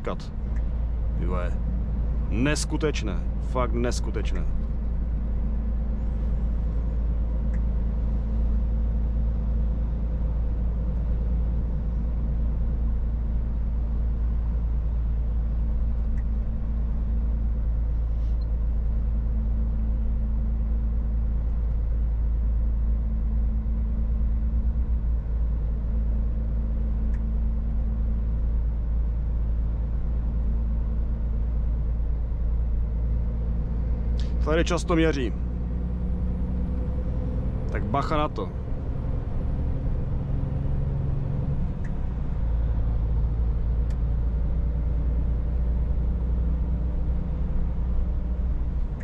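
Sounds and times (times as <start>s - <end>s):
road and tyre noise: 0.0s - 49.0s
truck diesel engine cruising: 0.0s - 49.0s.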